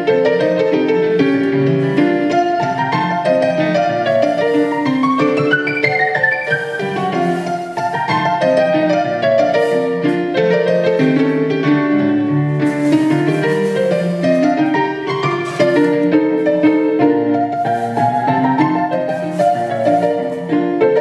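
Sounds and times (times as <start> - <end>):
instrumental piano music: 0.0 - 21.0.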